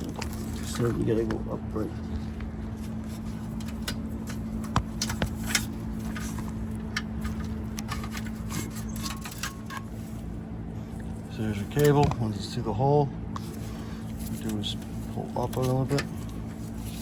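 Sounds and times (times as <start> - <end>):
light clicks scrapes and rattles: 0.0 - 10.4, 11.0 - 12.4, 13.4 - 17.0
steady low hum: 0.0 - 17.0.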